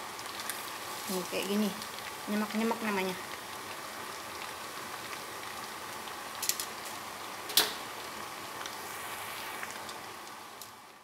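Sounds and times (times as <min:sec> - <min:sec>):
deep-frying sizzle in oil: 0:00.0 - 0:11.0.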